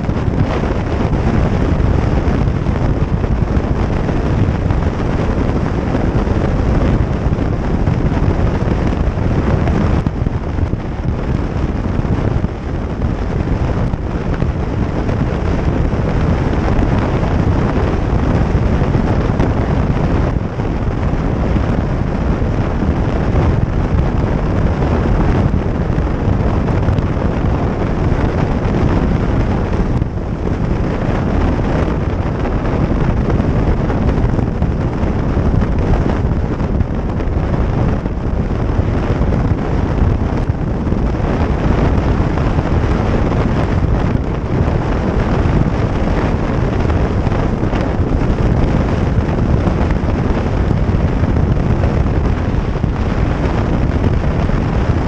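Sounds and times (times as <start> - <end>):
motorcycle and road noise: 0.0 - 55.0
wind rushing over microphone: 0.0 - 55.0.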